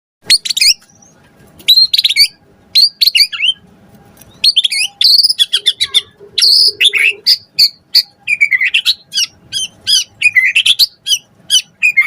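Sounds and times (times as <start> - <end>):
songbird whistling song: 0.2 - 3.6, 4.2 - 12.0.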